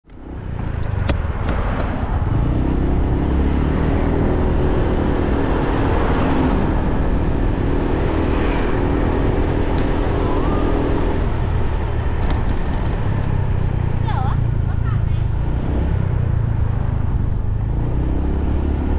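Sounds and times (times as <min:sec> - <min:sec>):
road and traffic noise: 0:00.0 - 0:18.9.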